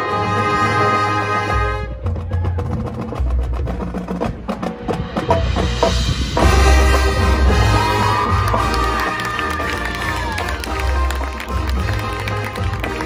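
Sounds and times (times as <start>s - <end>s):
marching band playing chords: 0.0s - 13.0s
low drums: 1.5s - 13.0s
clicking percussion rhythm: 2.0s - 13.0s.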